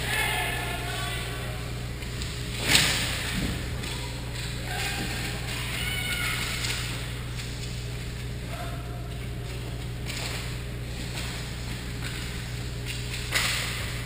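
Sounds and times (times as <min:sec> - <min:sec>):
distant voices: 0:00.0 - 0:13.3
low hum: 0:00.0 - 0:14.0.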